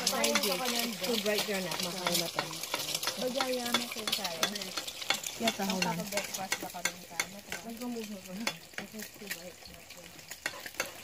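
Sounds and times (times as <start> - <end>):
people's voices: 0.0 - 4.8, 5.4 - 10.2
food sizzling and crackling: 0.0 - 11.0.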